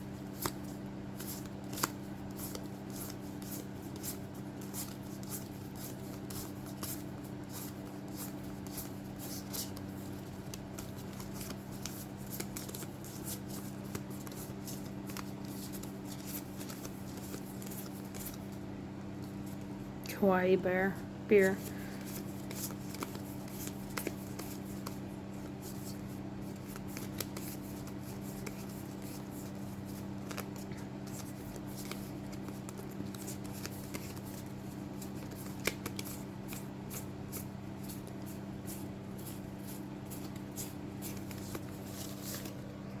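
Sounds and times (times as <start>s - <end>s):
steady low hum: 0.0s - 43.0s
playing cards clicking and sliding: 0.2s - 18.6s, 21.4s - 42.9s.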